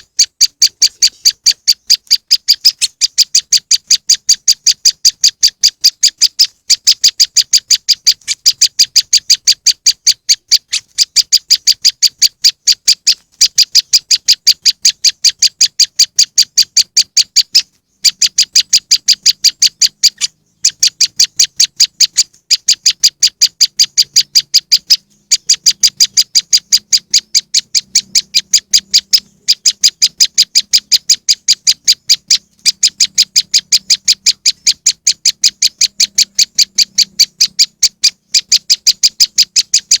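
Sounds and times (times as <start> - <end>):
rapid high bird chipping: 0.0 - 40.0.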